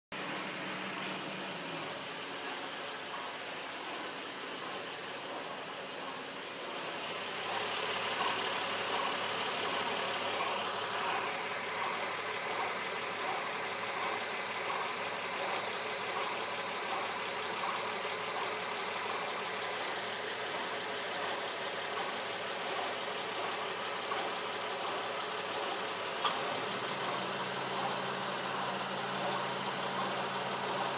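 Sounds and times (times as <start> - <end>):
car engine running: 0.1 - 30.9.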